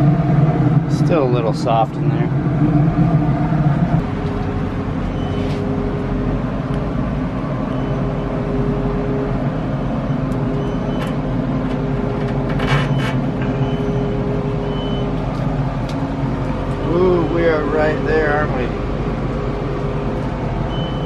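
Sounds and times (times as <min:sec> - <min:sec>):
fan humming: 0:00.0 - 0:21.0.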